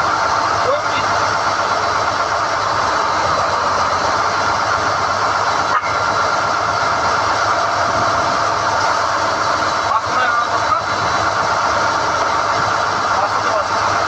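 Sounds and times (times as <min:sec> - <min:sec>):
drilling rig machine noise: 0:00.0 - 0:14.0.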